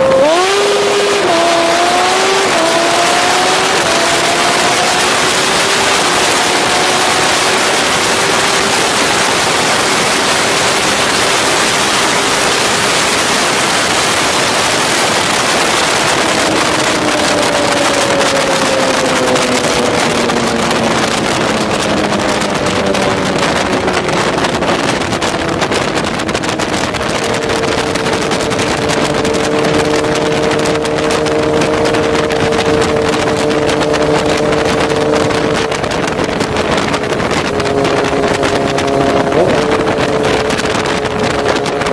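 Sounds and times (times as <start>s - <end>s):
motorcycle engine hum: 0.0s - 41.9s
wind rushing over microphone: 0.0s - 41.9s.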